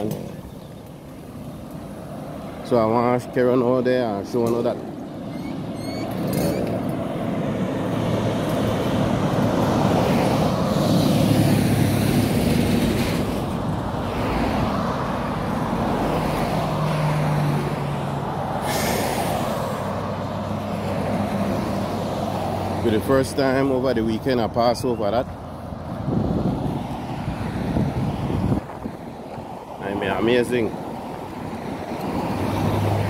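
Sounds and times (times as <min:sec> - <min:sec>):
cars passing on highway: 0:00.0 - 0:33.0.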